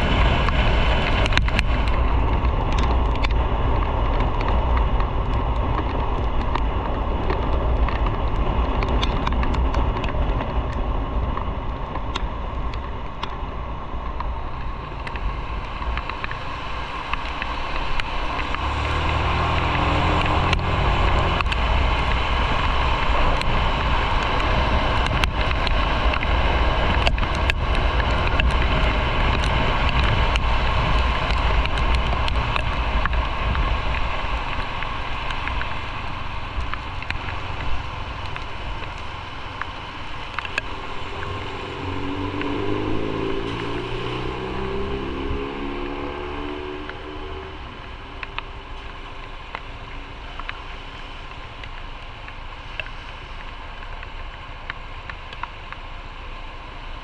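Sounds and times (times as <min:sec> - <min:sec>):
wind rushing on microphone: 0:00.0 - 0:55.8.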